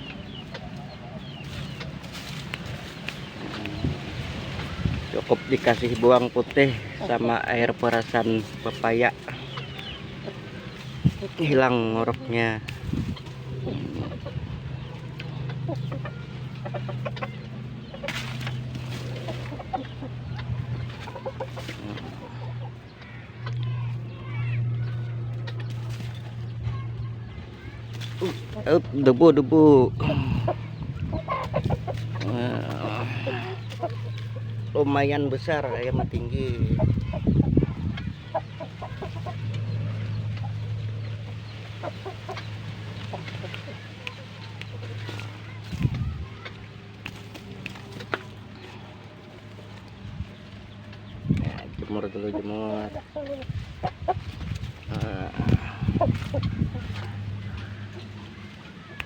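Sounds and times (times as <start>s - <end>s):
low rumble: 0.0s - 52.1s
roosters clucking softly: 0.0s - 59.0s.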